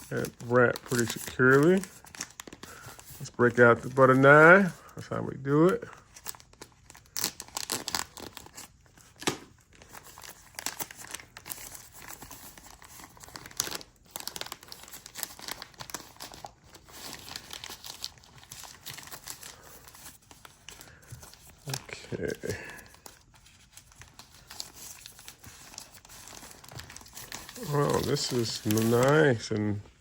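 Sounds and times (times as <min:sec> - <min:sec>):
packaging crinkling and tearing: 0:00.0 - 0:29.8.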